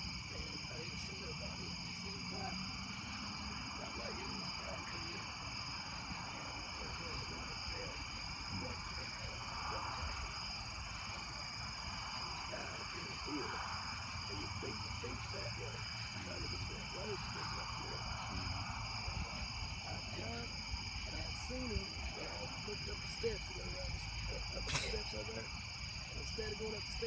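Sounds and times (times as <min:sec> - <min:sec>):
murmuring voices: 0:00.0 - 0:27.0
night insects trilling: 0:00.0 - 0:27.0.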